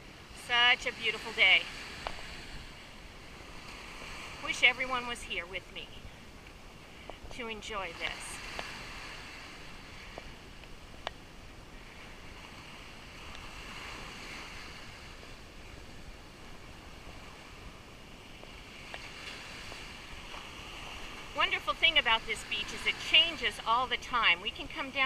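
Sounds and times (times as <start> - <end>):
sea surf washing on beach: 0.0 - 25.0.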